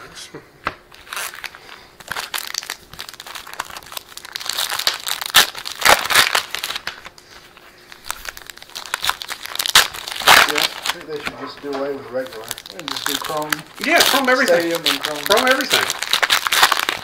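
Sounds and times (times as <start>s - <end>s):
foil wrapper crinkling: 0.9s - 17.0s.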